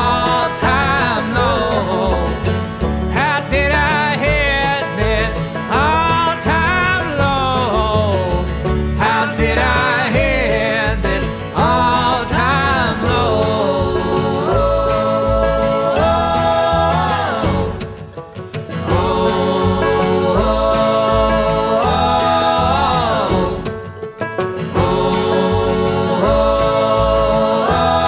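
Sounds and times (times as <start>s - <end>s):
country music: 0.0s - 28.0s.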